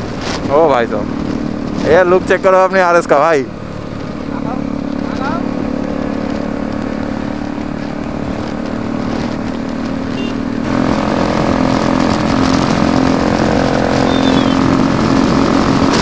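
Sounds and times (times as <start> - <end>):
motorcycle engines droning: 0.0 - 16.0.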